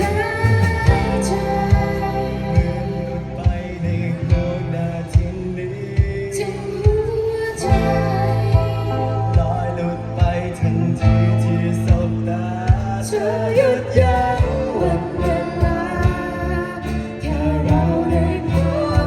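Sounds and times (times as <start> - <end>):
bass notes: 0.0 - 19.0
person singing: 0.0 - 19.0
steady drum beat: 0.0 - 19.0.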